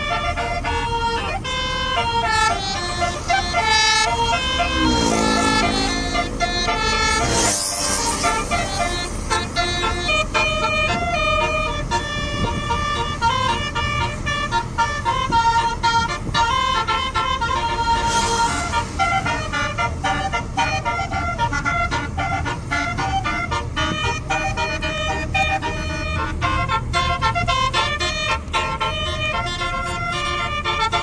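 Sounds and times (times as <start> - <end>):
musical air horn tune: 0.0 - 31.0.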